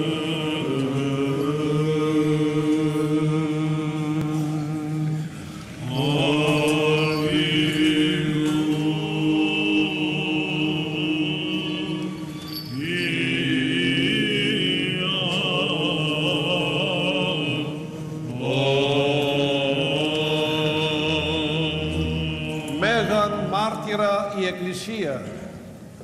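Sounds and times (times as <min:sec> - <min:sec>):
ornamented vocal chant: 0:00.0 - 0:25.2.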